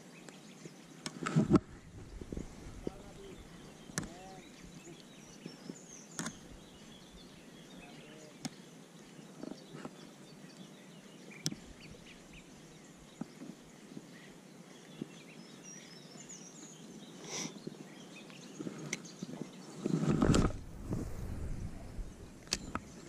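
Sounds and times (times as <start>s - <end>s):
faint outdoor background noise: 0.0s - 23.0s
small birds chirping: 0.0s - 23.0s.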